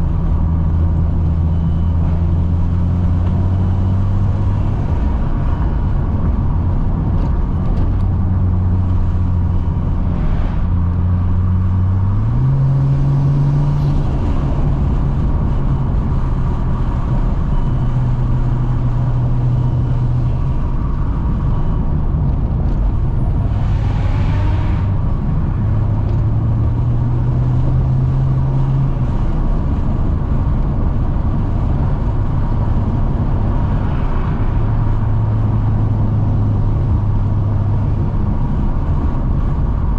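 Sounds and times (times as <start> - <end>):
car engine drone: 0.0 - 39.9
road noise inside car: 0.0 - 39.9.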